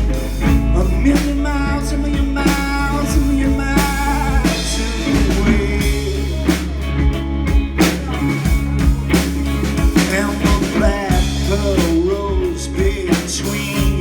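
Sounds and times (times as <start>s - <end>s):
drum kit beat: 0.0s - 14.0s
live rock band playing: 0.0s - 14.0s.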